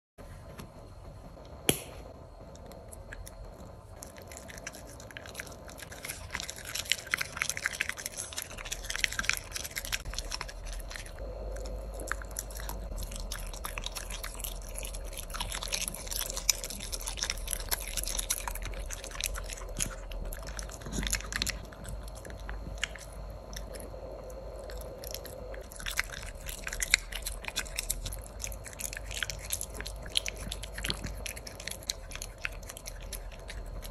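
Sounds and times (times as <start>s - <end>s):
puppy chewing crunchy food: 2.4s - 33.9s.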